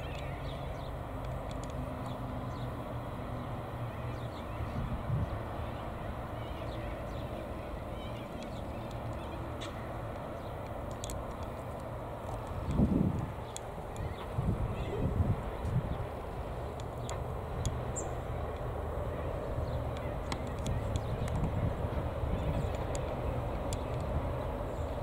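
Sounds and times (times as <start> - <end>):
birds chirping: 0.0 - 25.0
distant train rumble: 0.0 - 25.0.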